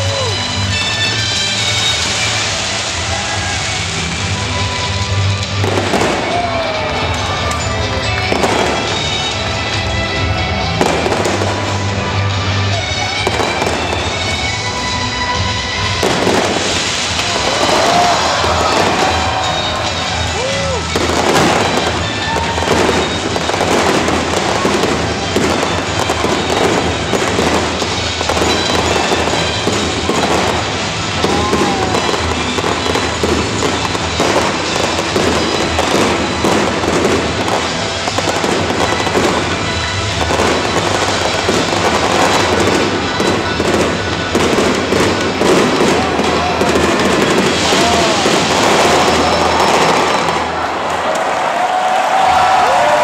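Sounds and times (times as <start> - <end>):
fireworks crackling and popping: 0.0 - 53.0.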